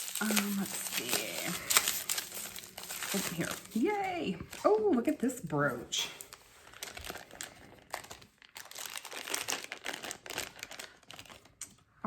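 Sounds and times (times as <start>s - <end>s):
packaging crinkling and rustling: 0.0s - 11.9s.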